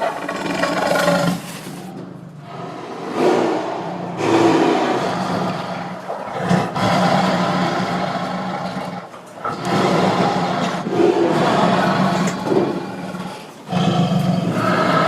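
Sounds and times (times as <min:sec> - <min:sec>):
tiger roaring and growling: 0:00.0 - 0:15.0.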